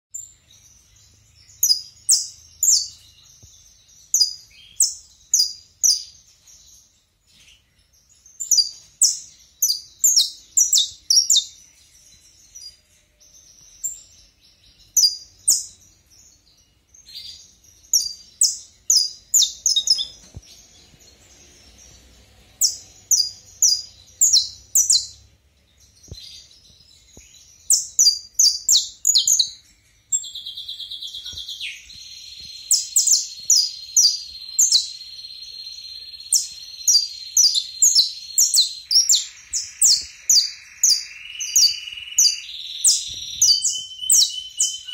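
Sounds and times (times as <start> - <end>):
finch singing: 0.2 - 44.9.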